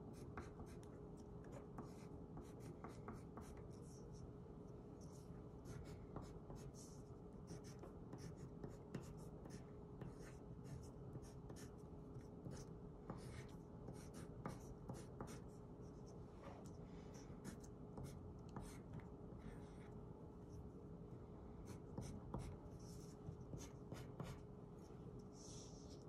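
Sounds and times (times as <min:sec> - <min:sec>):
pencil scratching on paper: 0:00.1 - 0:04.3, 0:05.0 - 0:20.0, 0:21.6 - 0:24.4.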